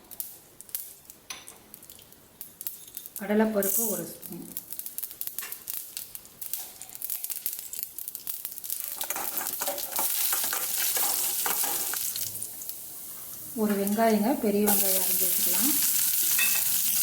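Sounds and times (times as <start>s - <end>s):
spices sizzling and popping in oil: 0.0s - 17.0s.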